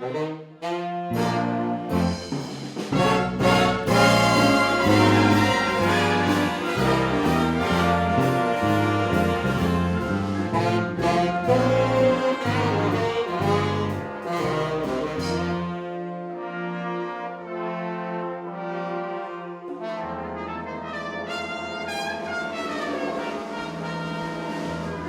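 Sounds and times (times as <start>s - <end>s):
big band brass playing chords: 0.0s - 25.0s.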